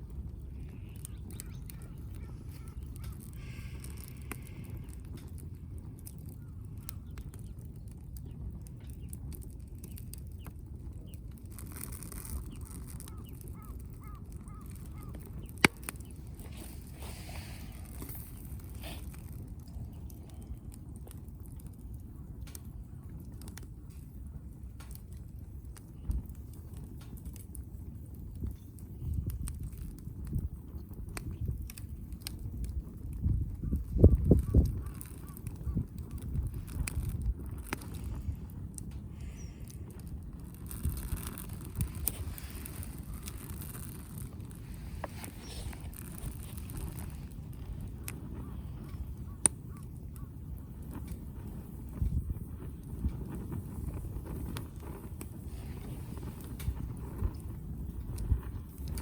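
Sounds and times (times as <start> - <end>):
wood fire crackling: 0.0 - 59.0
sharp snap of fire: 0.6 - 24.1, 24.7 - 59.0.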